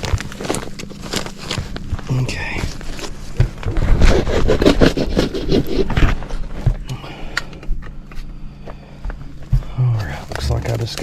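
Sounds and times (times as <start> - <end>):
ductwork scraping and rustling: 0.0 - 6.9, 7.8 - 11.0.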